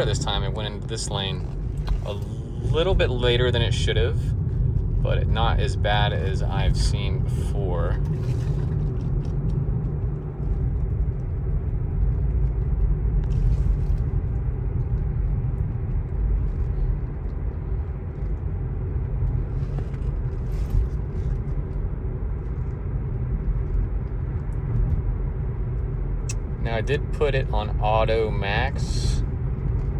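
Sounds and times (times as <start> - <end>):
road and tyre rumble in car: 0.0 - 29.9.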